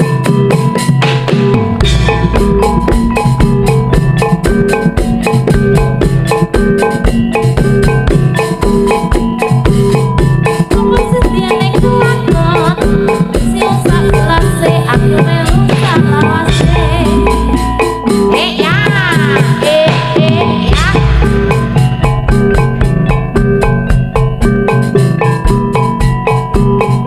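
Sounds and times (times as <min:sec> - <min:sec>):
drums and heavy bass: 0:00.0 - 0:27.0
metal mallet instruments ringing: 0:00.0 - 0:27.0
wavering melody line: 0:00.0 - 0:27.0.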